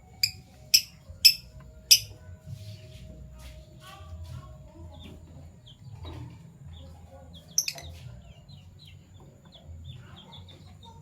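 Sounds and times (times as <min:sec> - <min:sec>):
lovebirds chirping: 0:00.0 - 0:03.0, 0:04.3 - 0:11.0.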